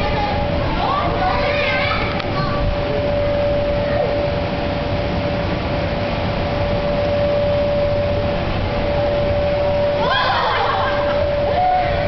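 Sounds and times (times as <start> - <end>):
constant high hum: 0.0 - 12.0
ride car rumble: 0.0 - 12.0.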